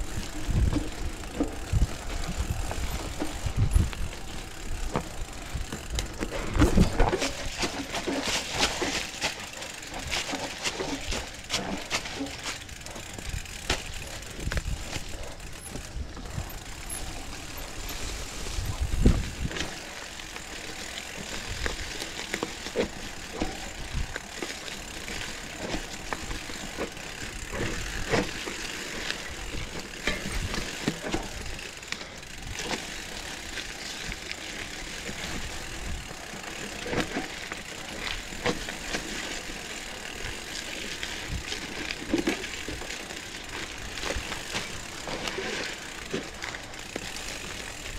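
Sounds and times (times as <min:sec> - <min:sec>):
bike rattling over roots: 0:00.0 - 0:47.9
bike tyres on dirt: 0:00.0 - 0:47.9.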